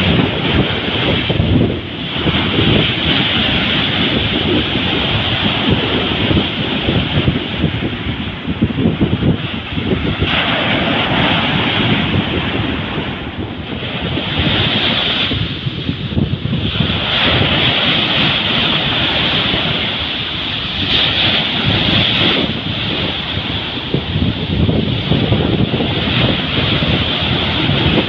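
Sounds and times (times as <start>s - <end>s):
ocean surf breaking on beach: 0.0s - 28.0s
wind buffeting microphone: 0.0s - 28.0s.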